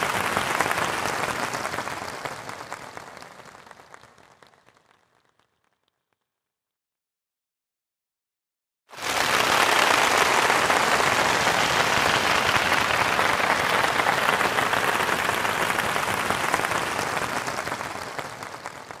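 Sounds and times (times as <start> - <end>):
audience applauding: 0.0 - 5.6, 8.9 - 19.0.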